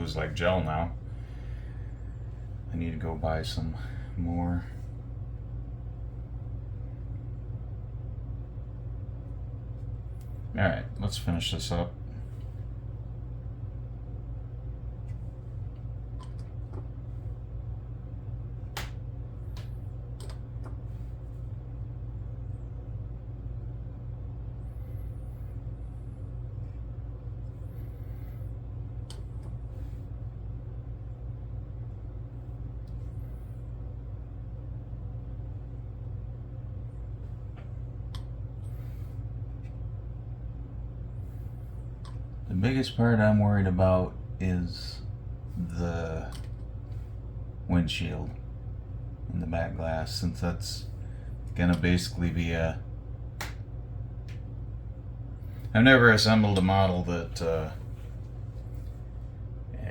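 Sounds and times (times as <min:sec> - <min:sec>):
room hum: 0:00.0 - 0:59.9.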